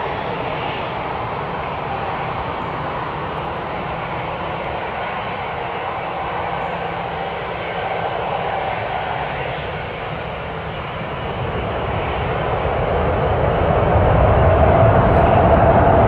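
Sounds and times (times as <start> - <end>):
jet engine noise: 0.0 - 16.0.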